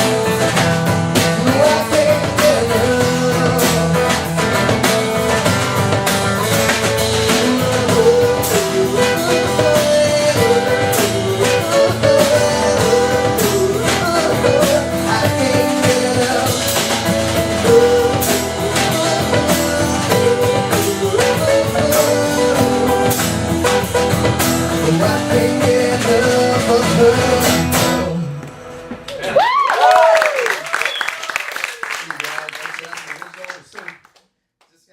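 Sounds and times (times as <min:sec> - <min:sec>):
blues band playing: 0:00.0 - 0:29.2.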